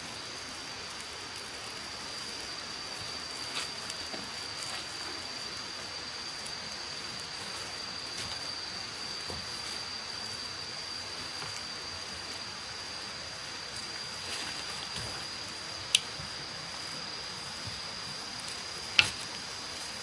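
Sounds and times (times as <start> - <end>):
rain in a forest: 0.0 - 20.0.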